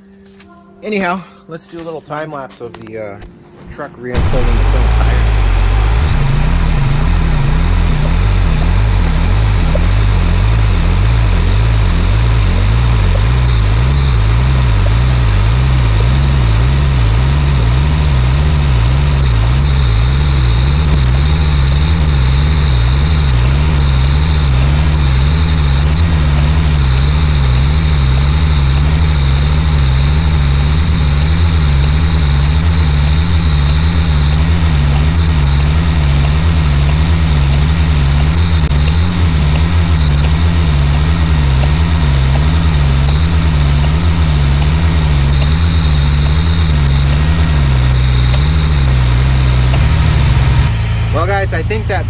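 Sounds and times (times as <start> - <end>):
diesel truck engine idling: 4.2 - 17.3, 19.9 - 52.0.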